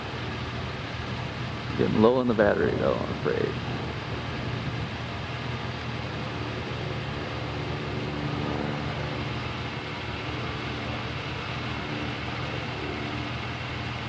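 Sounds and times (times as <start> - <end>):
faint engine hum: 0.0 - 14.0
vehicle engine rumble: 0.0 - 14.0.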